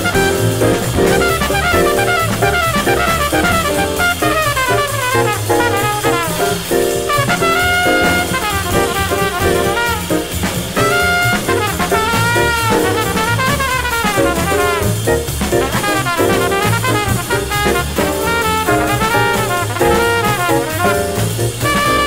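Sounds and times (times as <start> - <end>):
hard bop jazz sextet: 0.0 - 22.0.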